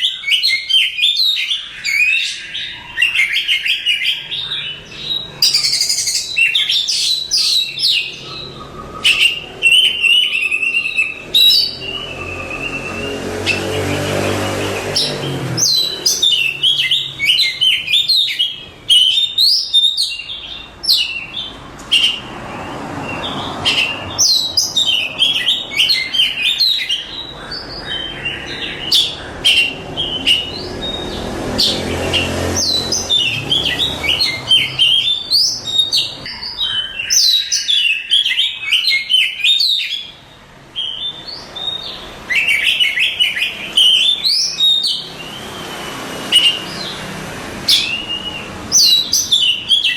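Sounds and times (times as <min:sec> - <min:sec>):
songbird singing whistled phrases: 0:00.0 - 0:13.8, 0:14.9 - 0:22.2, 0:23.6 - 0:27.3, 0:27.9 - 0:47.0, 0:47.7 - 0:49.9.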